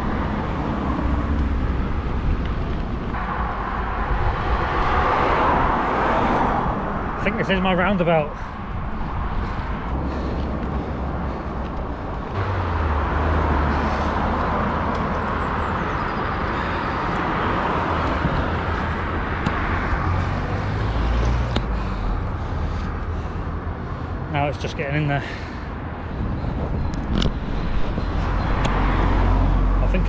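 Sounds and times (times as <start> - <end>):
wind rumble on microphone: 0.0 - 16.4, 17.1 - 23.6, 25.7 - 30.0
road traffic passing close: 0.0 - 30.0.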